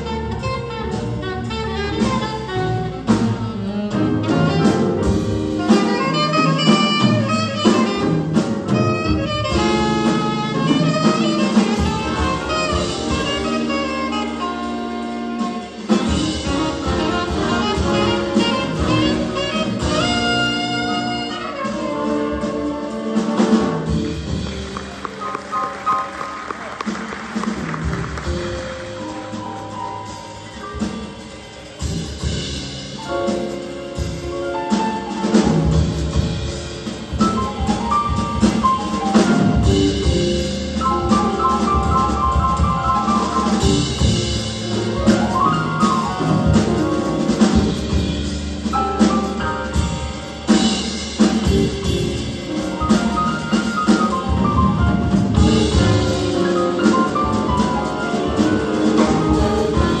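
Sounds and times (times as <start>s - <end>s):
busy drum kit: 0.0s - 60.0s
jazz big band playing: 0.0s - 60.0s.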